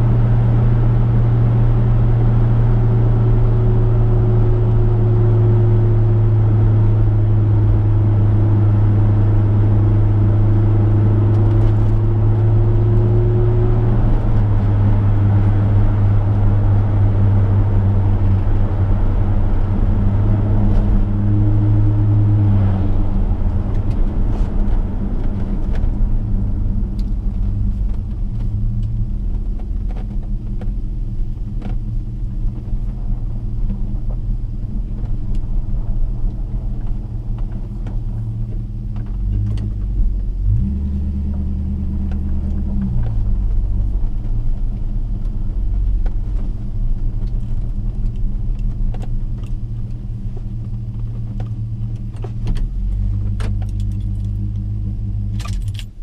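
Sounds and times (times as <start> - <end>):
car engine cruising drone: 0.0 - 56.0.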